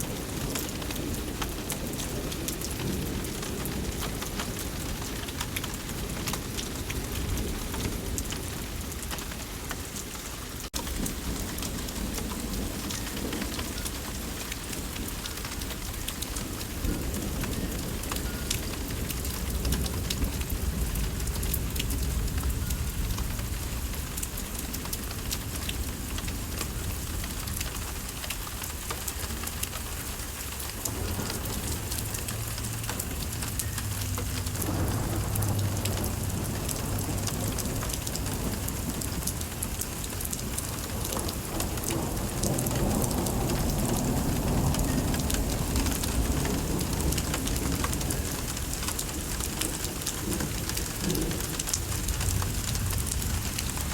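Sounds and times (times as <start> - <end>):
thunder rumble: 0.0 - 9.5, 10.8 - 28.1, 30.8 - 53.9
rain pattering: 0.0 - 53.9.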